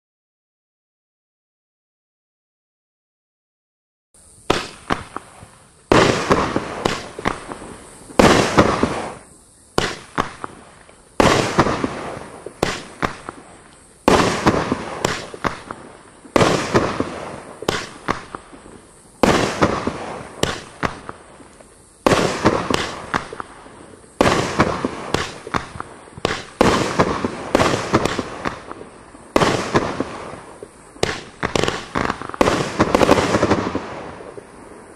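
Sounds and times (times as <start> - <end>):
crackling firework pops: 4.3 - 34.9
firework bangs: 4.4 - 34.9.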